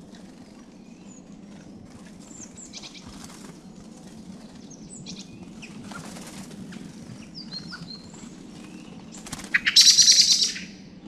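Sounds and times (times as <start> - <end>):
wing flutters: 0.0 - 10.3
songbirds chirping: 0.0 - 11.0.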